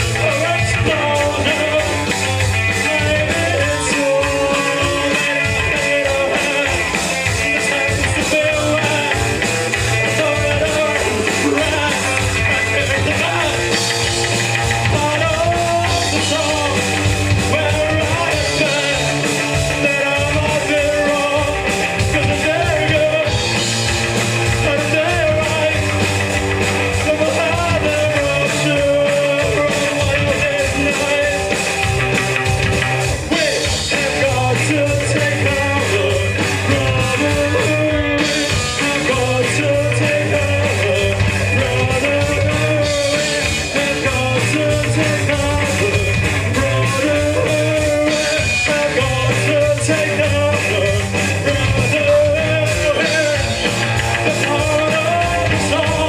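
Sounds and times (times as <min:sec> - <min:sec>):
person singing: 0:00.0 - 0:56.0
punk rock band playing live: 0:00.0 - 0:56.0.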